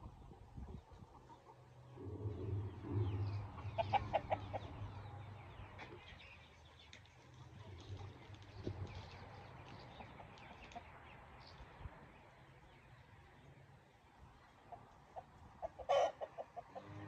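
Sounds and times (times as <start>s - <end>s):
chickens clucking: 0.0s - 11.2s, 14.3s - 17.0s.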